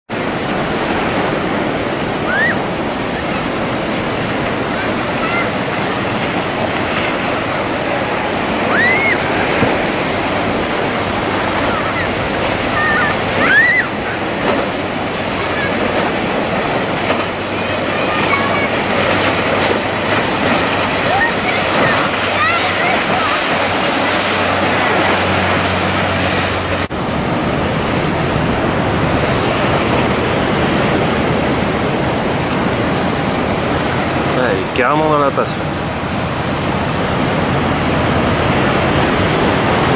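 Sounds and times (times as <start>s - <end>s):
wind buffeting microphone: 0.1s - 35.0s
outboard motor hum: 0.1s - 39.9s
water rushing and spray: 0.1s - 39.9s
waves and surf churning: 0.1s - 39.9s.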